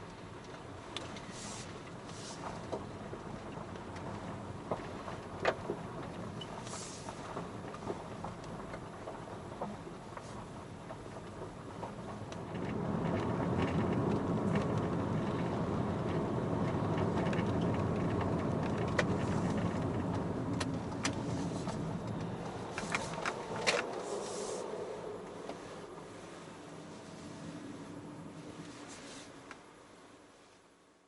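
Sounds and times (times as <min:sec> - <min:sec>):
road vehicle rumble: 0:00.0 - 0:31.0.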